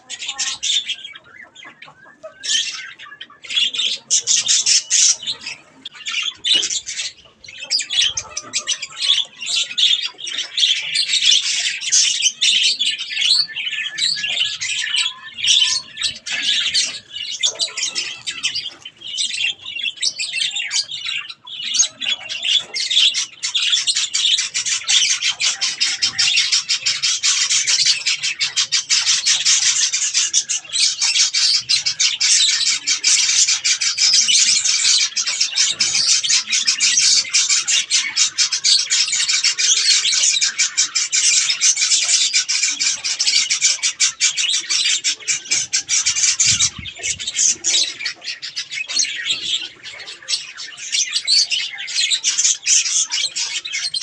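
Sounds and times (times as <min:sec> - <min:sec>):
budgerigars chattering and chirping: 0:00.0 - 0:54.0.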